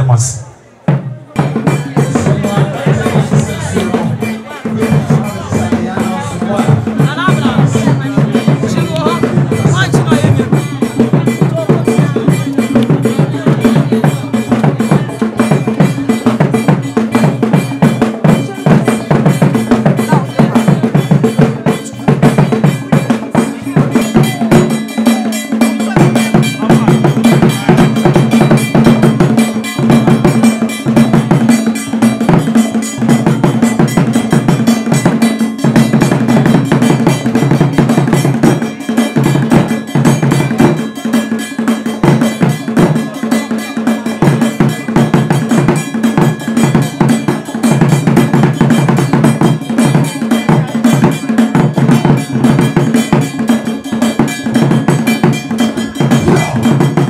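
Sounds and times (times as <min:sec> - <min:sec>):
drums playing fast rhythm: 0:00.0 - 0:57.0
bell ringing in rhythm: 0:01.4 - 0:57.0.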